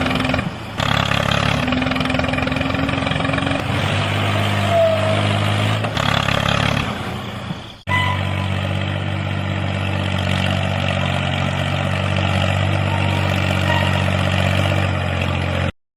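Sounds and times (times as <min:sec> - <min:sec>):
engine-like hum: 0:00.0 - 0:15.8.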